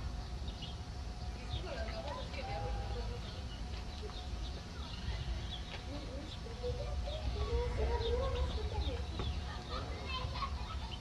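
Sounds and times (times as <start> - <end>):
distant voices: 0.0 - 11.0
bird chirps: 0.1 - 11.0.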